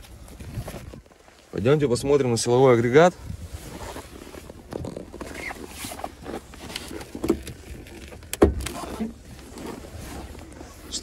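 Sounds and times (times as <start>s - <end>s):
person moving in car seat: 0.0s - 11.0s.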